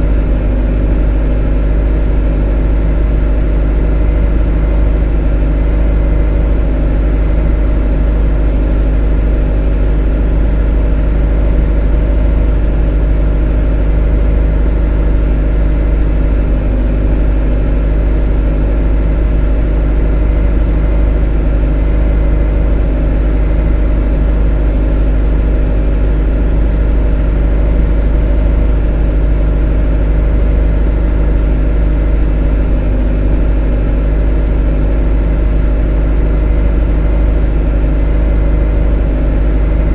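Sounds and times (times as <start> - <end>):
motor droning: 0.0 - 39.9.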